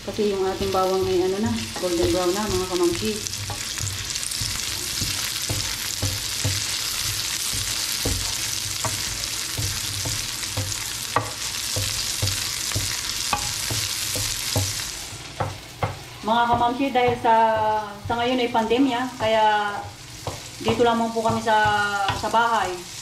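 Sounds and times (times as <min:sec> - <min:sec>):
garlic and onion sizzling in oil: 0:00.0 - 0:23.0
wooden spatula scraping a pan: 0:00.5 - 0:22.9.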